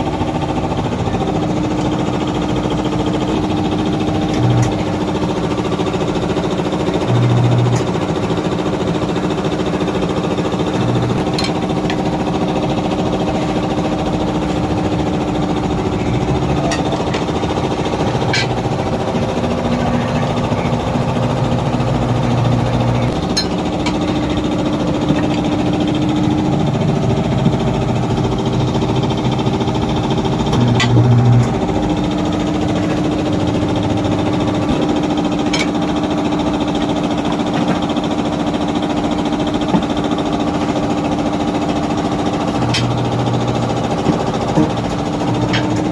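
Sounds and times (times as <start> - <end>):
motor humming: 0.0 - 45.9.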